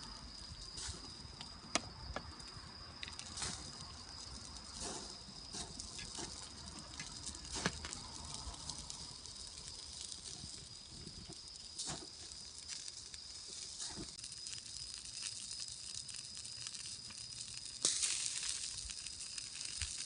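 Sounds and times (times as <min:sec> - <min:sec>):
campfire crackling and popping: 0:00.0 - 0:20.0
insects trilling: 0:00.0 - 0:20.0.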